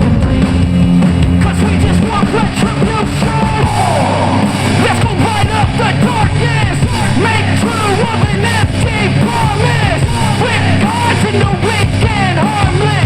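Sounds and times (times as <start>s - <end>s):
rock song through portable speaker: 0.0s - 13.0s.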